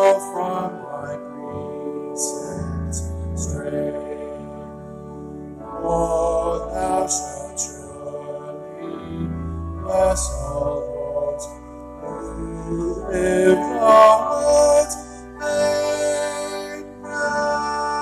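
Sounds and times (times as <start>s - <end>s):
organ accompaniment: 0.0s - 18.0s
voices singing a hymn: 0.0s - 18.0s.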